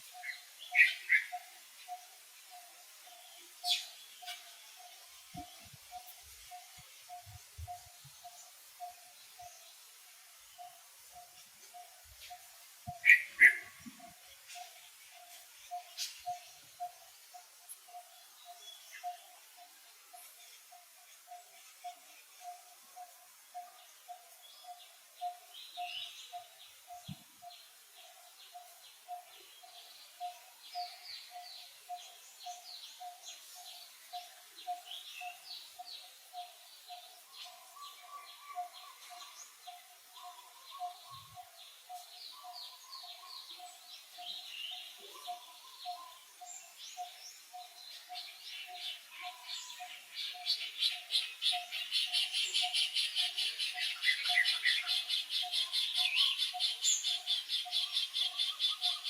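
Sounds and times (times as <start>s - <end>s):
forest birds chirping and trilling: 0.0s - 59.0s.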